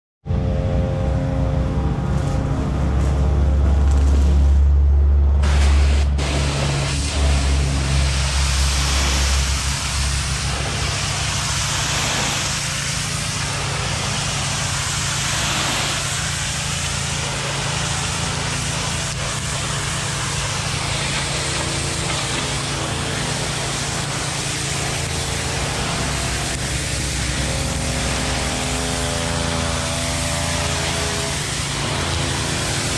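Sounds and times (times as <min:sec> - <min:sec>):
pressure washer engine running: 0:00.3 - 0:32.9
water jet hissing: 0:05.4 - 0:32.9.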